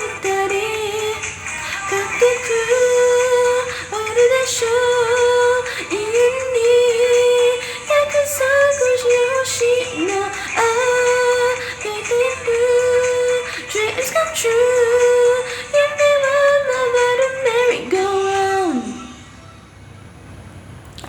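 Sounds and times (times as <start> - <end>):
person singing: 0.0 - 19.2.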